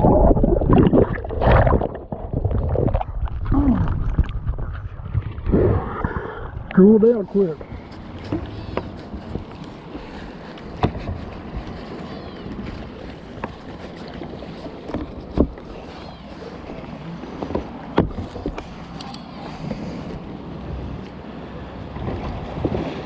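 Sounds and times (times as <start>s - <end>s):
rush of moving water: 0.0s - 23.0s
water splashing around kayak: 0.0s - 23.0s.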